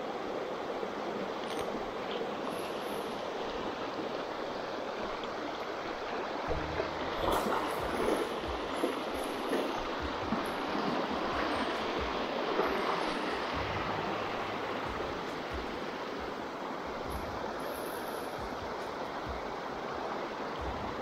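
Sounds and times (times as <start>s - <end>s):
water rushing down a channel: 0.0s - 21.0s.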